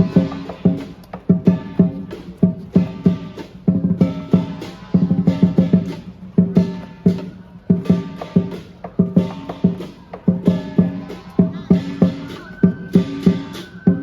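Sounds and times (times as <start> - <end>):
big drum beats: 0.0 - 14.0
cymbals crashing: 0.0 - 14.0.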